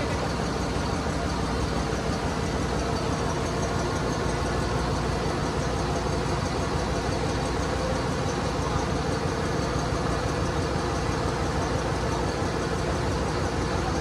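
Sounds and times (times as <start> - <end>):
engine-room machinery drone: 0.0 - 14.0.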